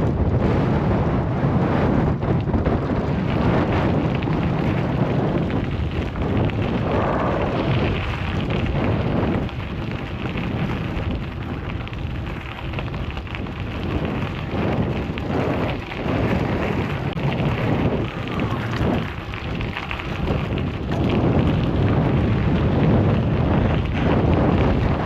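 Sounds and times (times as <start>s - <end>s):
wind and road noise while cycling: 0.0s - 25.0s.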